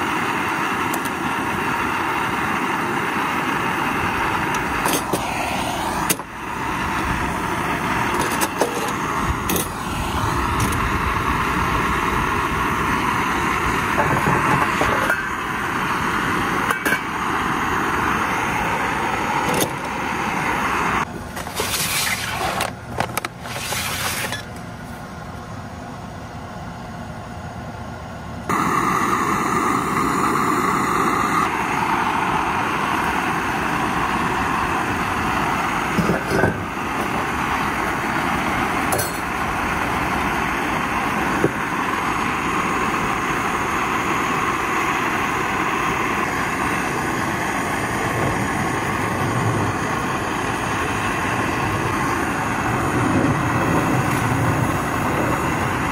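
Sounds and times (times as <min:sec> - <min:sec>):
gas camp stove roaring: 0:00.0 - 0:55.9.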